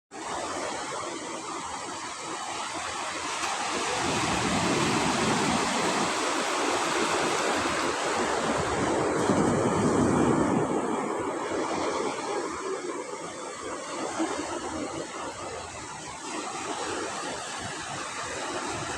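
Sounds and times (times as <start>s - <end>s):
sea waves breaking on shore: 0.2s - 18.9s.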